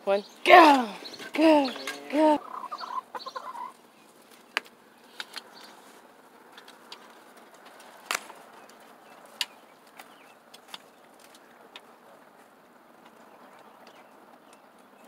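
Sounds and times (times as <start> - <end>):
chickens pecking at feed: 0.6 - 15.0.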